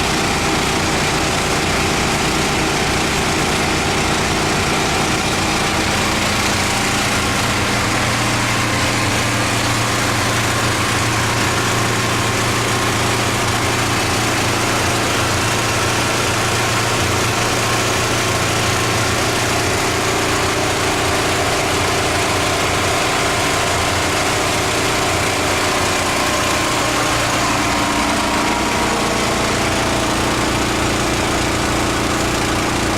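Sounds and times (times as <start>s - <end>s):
pressure washer engine hum: 0.0s - 32.9s.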